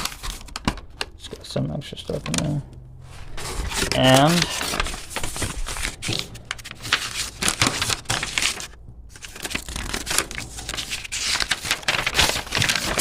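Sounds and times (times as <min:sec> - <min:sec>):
paper and packaging crinkling: 0:00.0 - 0:13.0.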